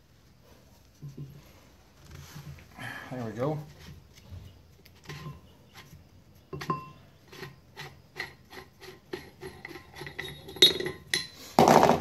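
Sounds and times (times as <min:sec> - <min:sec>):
metal threads scraping: 0:00.9 - 0:11.6.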